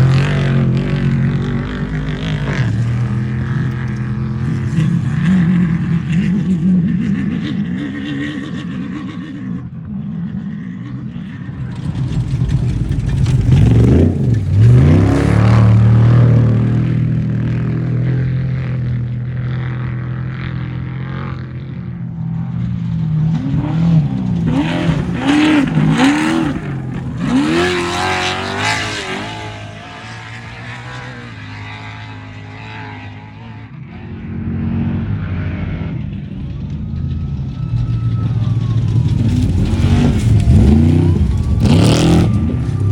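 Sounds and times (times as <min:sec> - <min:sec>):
race vehicle engines passing: 0:00.0 - 0:42.9.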